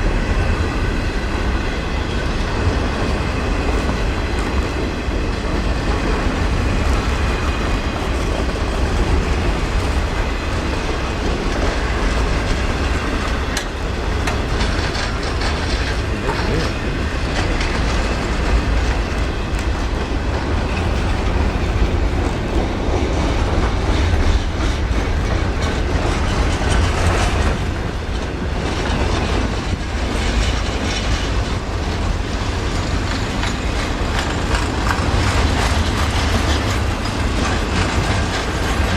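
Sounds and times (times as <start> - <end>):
train rumbling past: 0.0 - 38.9
wheels clickety-clack: 0.0 - 38.9.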